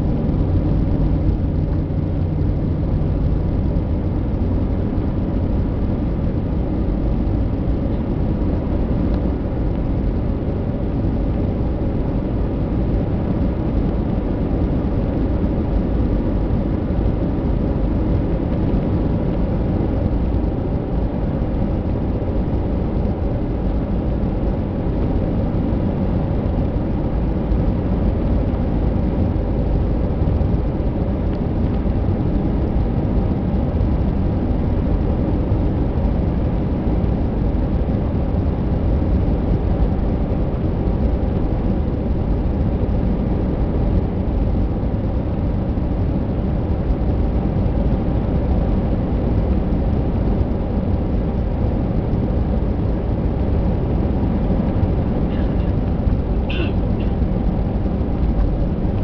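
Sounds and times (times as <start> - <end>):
faint steady hum: 0.0 - 59.0
jet engine and airflow rushing: 0.0 - 59.0.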